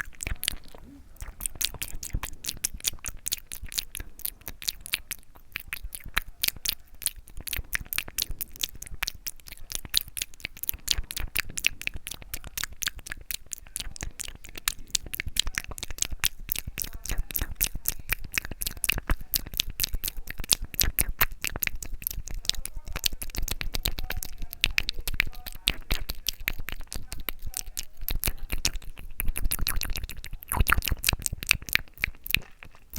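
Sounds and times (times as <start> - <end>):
wet mouth clicks and smacks: 0.0 - 32.9.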